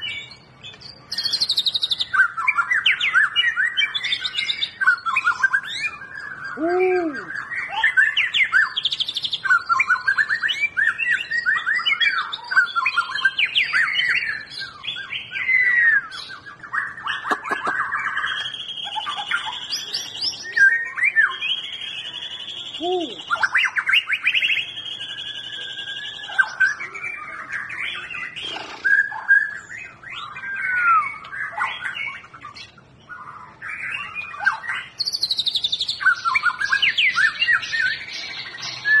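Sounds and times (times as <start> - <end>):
bird singing whistled song: 0.0 - 39.0.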